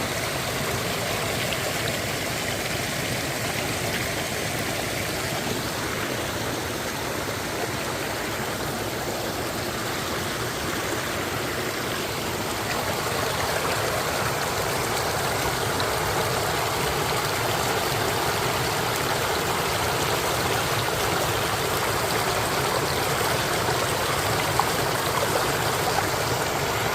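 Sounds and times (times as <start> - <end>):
water flowing: 0.0 - 26.9.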